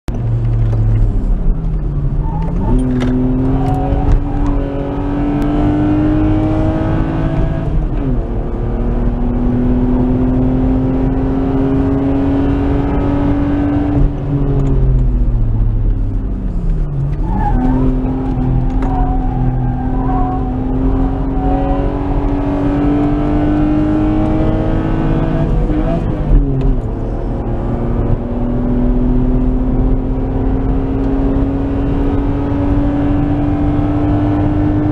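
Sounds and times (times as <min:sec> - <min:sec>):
car engine accelerating: 0:00.1 - 0:34.9.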